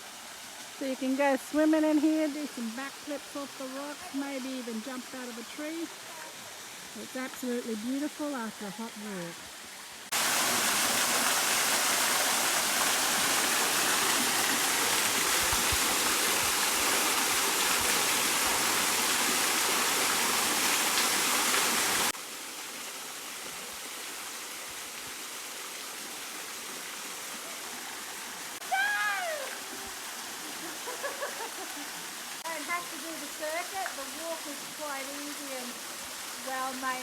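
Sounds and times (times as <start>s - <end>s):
waterfall rushing: 0.0s - 22.2s, 27.4s - 37.0s.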